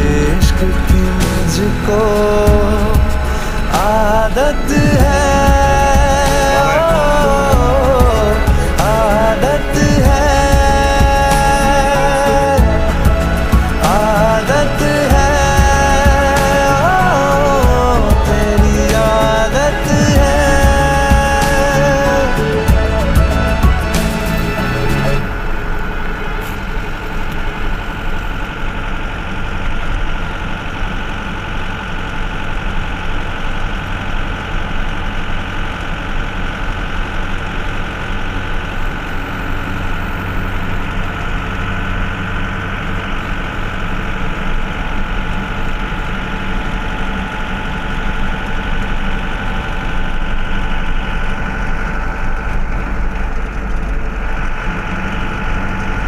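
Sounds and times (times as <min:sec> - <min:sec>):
vehicle engine and road drone: 0:00.0 - 0:56.0.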